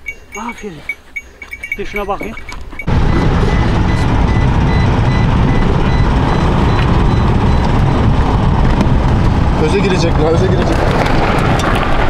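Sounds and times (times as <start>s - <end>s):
vehicle rumbling on dirt road: 0.0s - 12.0s.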